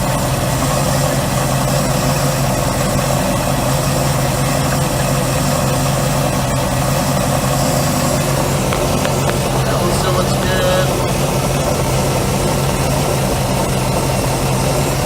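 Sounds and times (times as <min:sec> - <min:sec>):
boat engine running steadily: 0:00.0 - 0:15.0.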